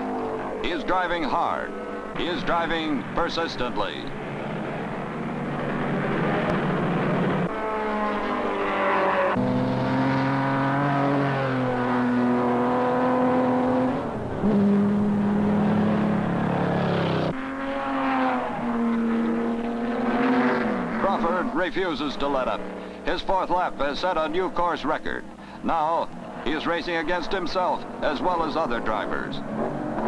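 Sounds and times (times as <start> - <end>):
racing car engines droning: 0.0 - 30.0.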